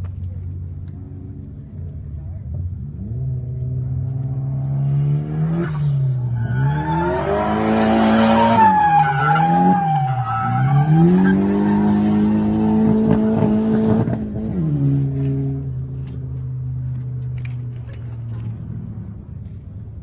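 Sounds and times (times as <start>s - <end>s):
car engine revving: 2.6s - 19.3s.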